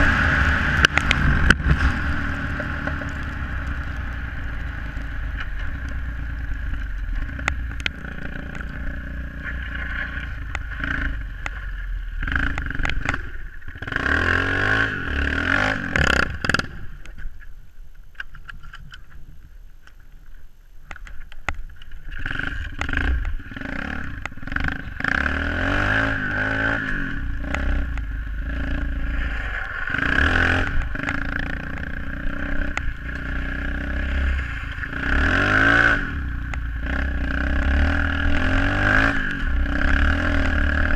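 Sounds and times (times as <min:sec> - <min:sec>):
motorcycle engine revving: 0:00.0 - 0:17.0, 0:22.1 - 0:40.9.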